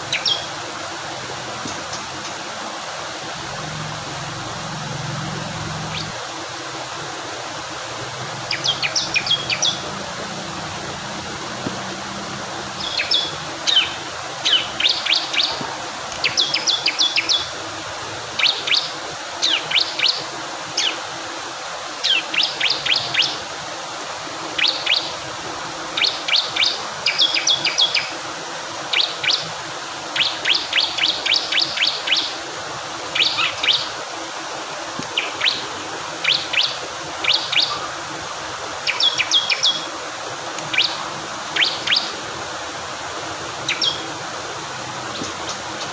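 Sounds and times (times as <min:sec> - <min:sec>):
flowing water: 0:00.0 - 0:45.9.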